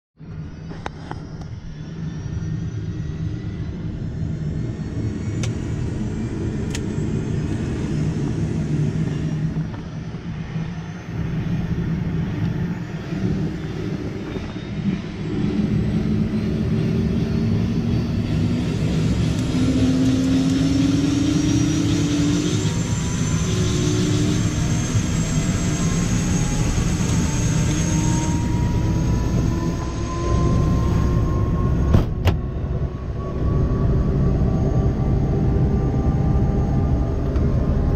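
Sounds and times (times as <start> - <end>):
helicopter engine and rotor: 0.2 - 37.9
turbine whine rising in pitch: 0.2 - 37.9.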